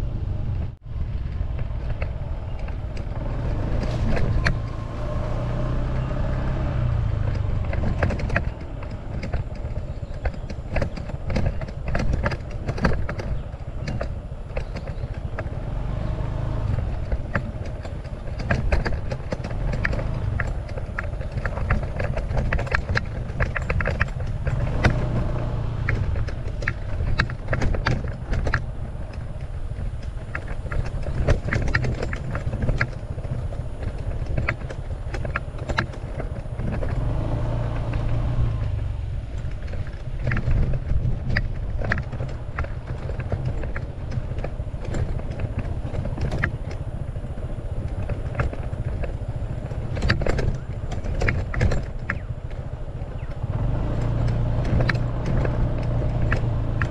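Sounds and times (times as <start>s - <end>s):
knocks and rattles over bumps: 0.0s - 56.9s
scooter engine rumble: 0.0s - 56.9s.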